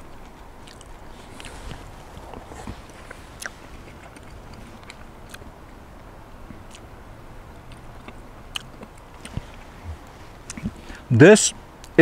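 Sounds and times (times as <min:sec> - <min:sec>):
man chewing food: 0:00.0 - 0:06.9, 0:07.5 - 0:11.0.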